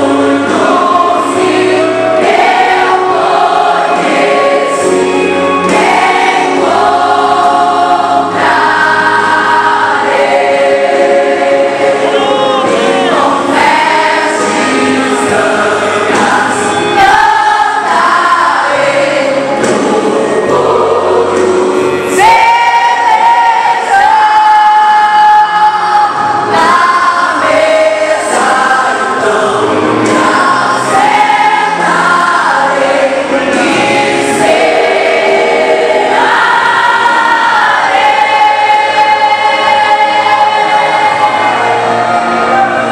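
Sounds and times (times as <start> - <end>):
choir singing a hymn: 0.0 - 42.9.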